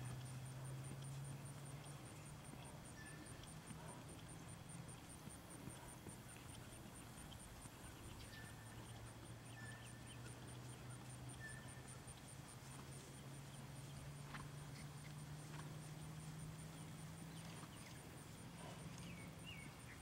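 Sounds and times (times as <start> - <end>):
horse hoofbeats on grass: 0.0 - 20.0
steady low hum: 0.0 - 20.0.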